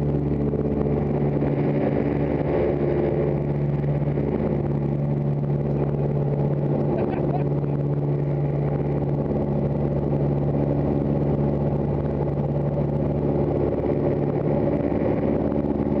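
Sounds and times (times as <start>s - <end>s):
propeller aircraft engine drone: 0.0s - 16.0s.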